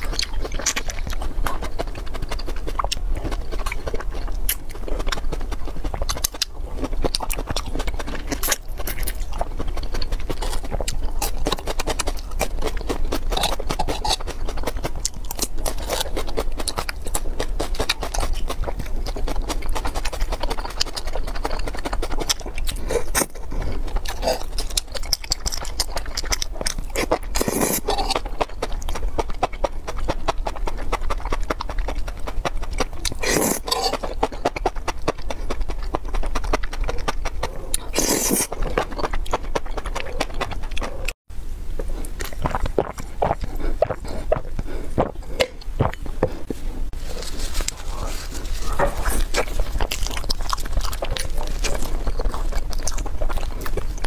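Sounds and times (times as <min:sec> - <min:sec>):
chewing mouth clicks: 0:00.0 - 0:41.2, 0:41.8 - 0:46.5, 0:47.2 - 0:54.0.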